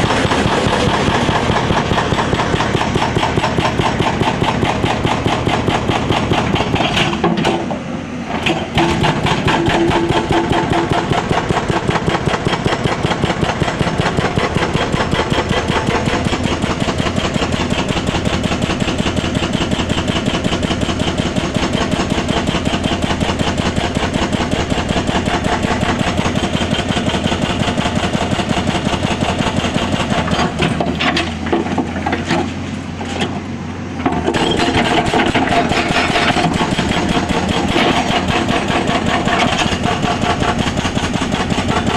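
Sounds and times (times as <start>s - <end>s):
hydraulic breaker hammering: 0.0s - 7.7s, 8.4s - 32.3s, 34.0s - 41.9s
diesel engine running: 0.0s - 41.9s.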